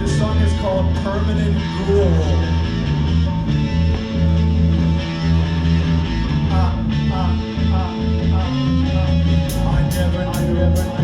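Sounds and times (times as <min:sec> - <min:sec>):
rock song with guitar and bass: 0:00.0 - 0:11.0.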